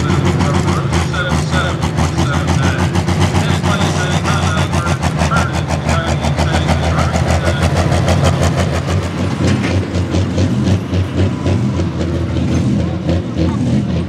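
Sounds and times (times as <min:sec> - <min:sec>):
diesel engine running loud: 0:00.0 - 0:14.0.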